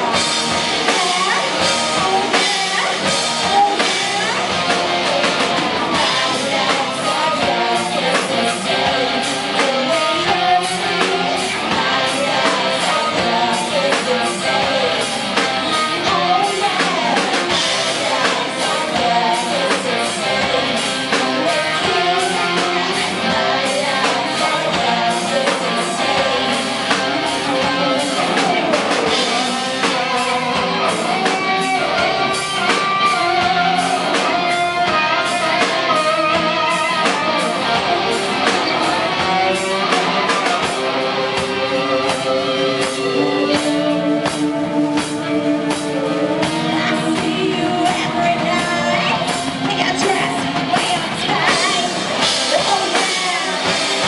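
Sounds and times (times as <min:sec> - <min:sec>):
drums: 0:00.0 - 0:54.0
electric guitar: 0:00.0 - 0:54.0
person singing: 0:00.0 - 0:54.0.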